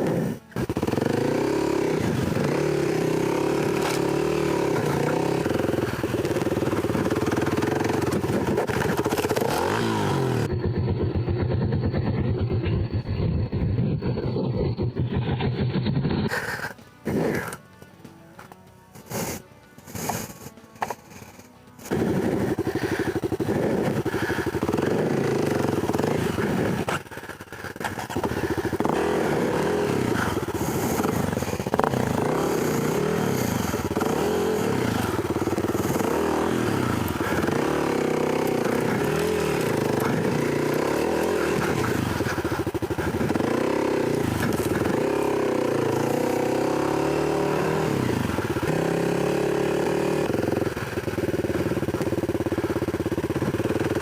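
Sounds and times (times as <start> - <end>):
dirt bike engine revving: 0.0 - 17.7, 19.1 - 54.0.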